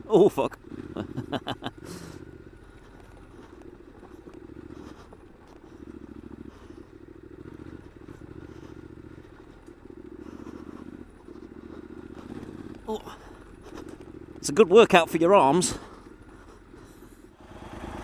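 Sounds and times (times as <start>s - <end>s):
motorcycle engine revving: 0.0s - 18.0s
motorcycle clatter: 0.6s - 17.1s.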